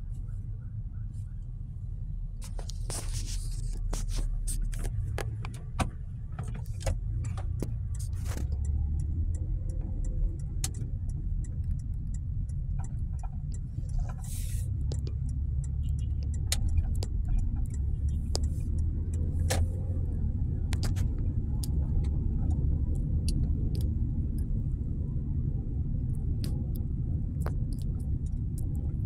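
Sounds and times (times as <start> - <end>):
engine and tyre rumble: 0.0 - 29.0
sharp clicks and knocks: 3.7 - 24.6, 26.0 - 29.0.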